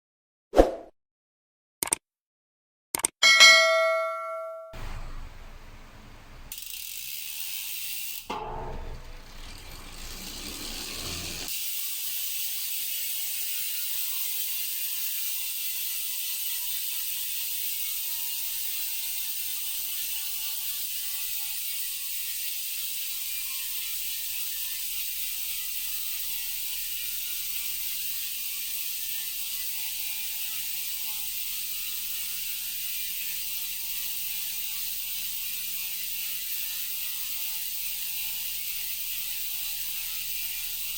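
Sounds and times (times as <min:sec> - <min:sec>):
bicycle hub ratchet buzz: 0:04.8 - 0:40.9.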